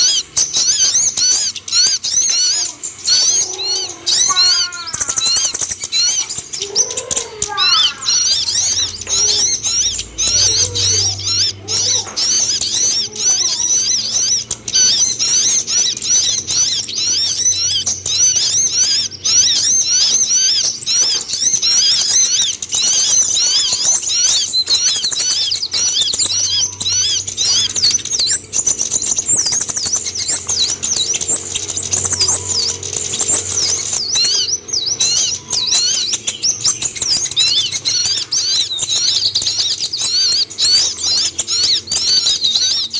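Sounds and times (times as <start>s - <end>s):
bird twittering and chirping: 0.0s - 42.9s
faint low hum: 0.0s - 42.9s.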